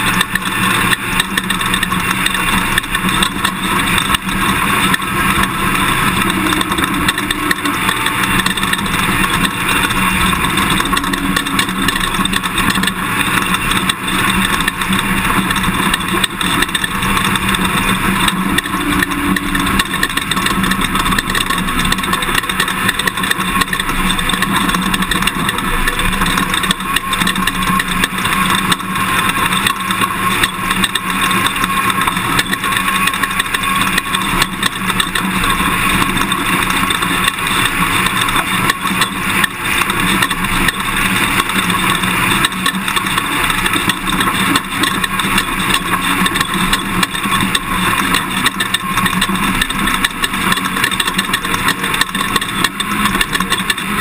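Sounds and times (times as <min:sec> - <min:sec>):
knocks and rattles: 0:00.0 - 0:54.0
truck engine and tyre noise: 0:00.0 - 0:54.0.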